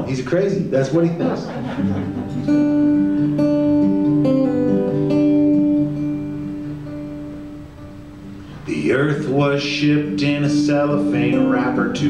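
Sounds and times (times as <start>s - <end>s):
acoustic guitar notes ringing: 1.5s - 12.0s.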